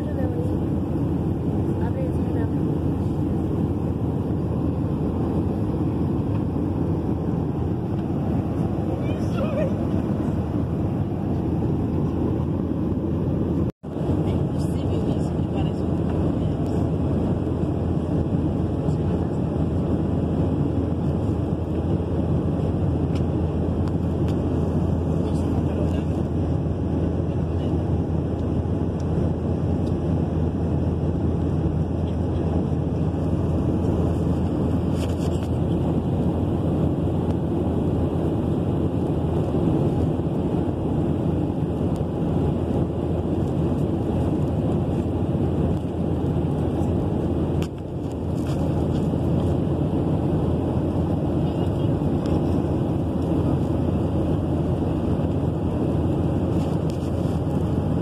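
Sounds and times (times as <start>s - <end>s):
jet airliner cabin noise: 0.0s - 58.0s.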